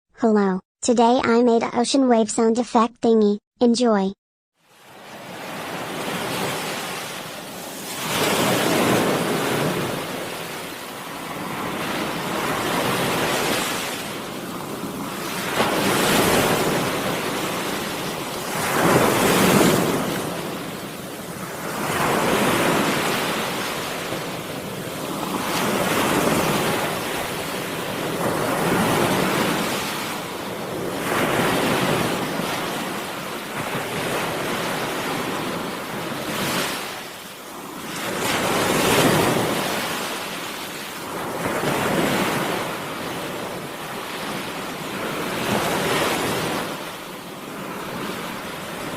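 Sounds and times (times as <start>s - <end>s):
ocean waves breaking: 4.6s - 48.9s.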